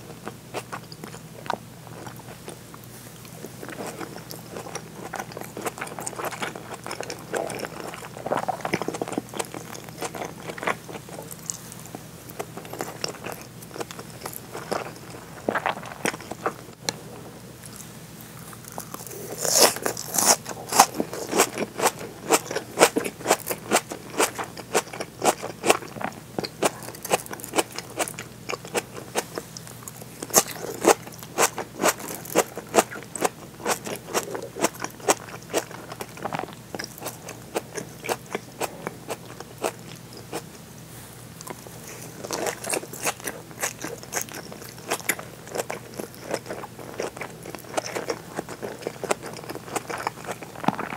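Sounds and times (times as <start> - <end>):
wet crunchy chewing: 3.2 - 40.6, 41.3 - 50.9.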